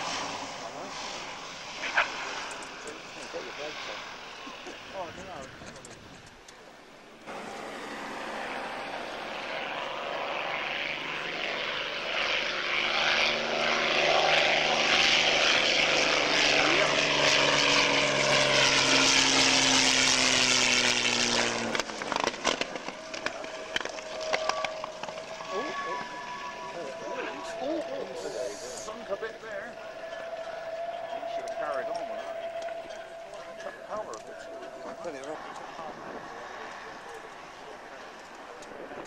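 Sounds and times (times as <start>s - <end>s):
propeller plane engine passing: 0.0s - 39.0s.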